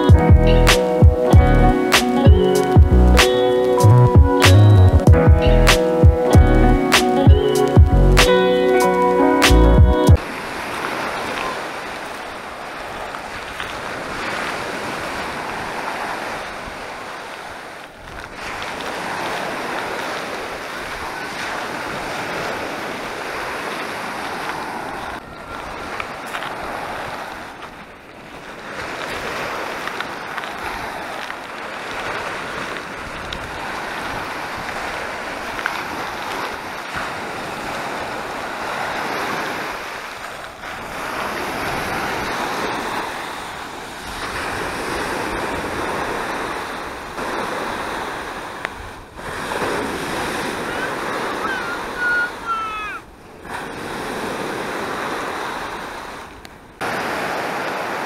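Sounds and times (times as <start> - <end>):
small waves breaking on beach: 10.2 - 58.0.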